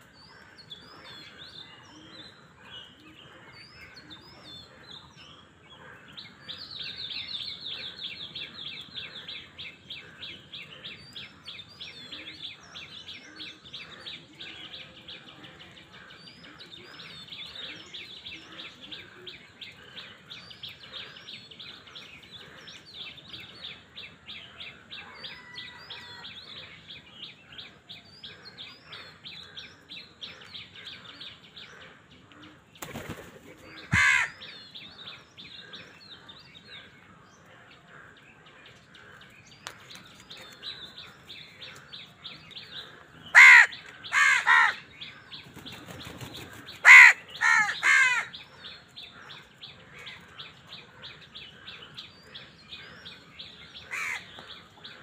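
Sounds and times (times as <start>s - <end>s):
birds chirping rapidly: 0.0s - 55.0s.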